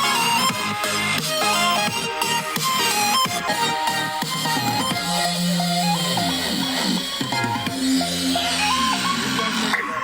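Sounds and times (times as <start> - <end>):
electronic dance music on speaker: 0.0 - 10.0.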